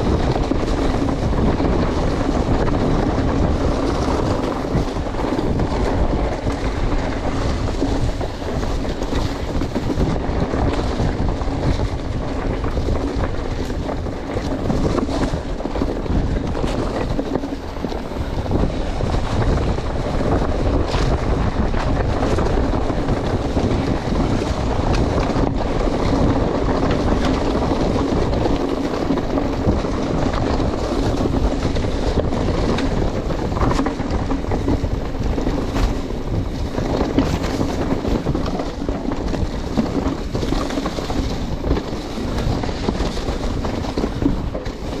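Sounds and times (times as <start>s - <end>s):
bike rattles and knocks: 0.0s - 45.0s
bike rumbling on dirt trail: 0.0s - 45.0s
wind buffeting microphone: 0.0s - 45.0s.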